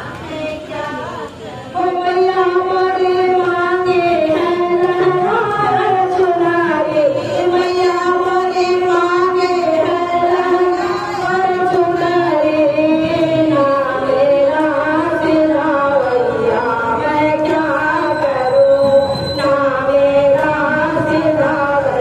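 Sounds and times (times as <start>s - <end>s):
woman singing devotional song: 0.0s - 22.0s.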